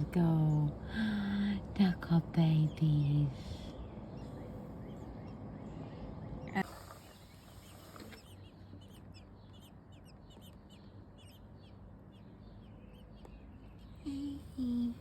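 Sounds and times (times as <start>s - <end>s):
nestling birds chirping: 0.0s - 15.0s.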